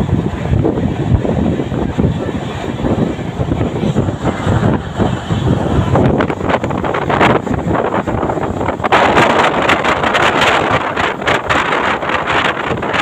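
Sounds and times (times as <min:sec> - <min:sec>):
train wheel rumble: 0:00.0 - 0:13.0
wind buffeting microphone: 0:00.0 - 0:13.0.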